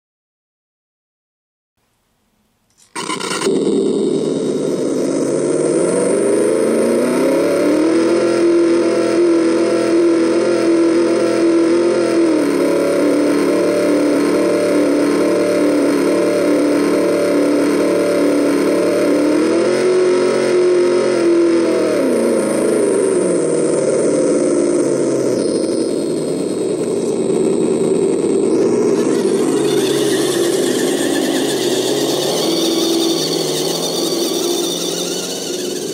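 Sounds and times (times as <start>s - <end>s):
electronic engine sound revving: 2.8s - 35.9s.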